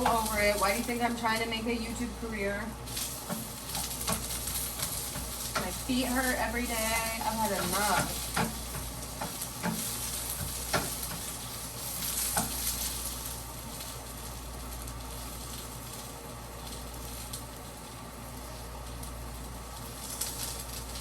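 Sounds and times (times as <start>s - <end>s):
food sizzling in frying pan: 0.0s - 21.0s.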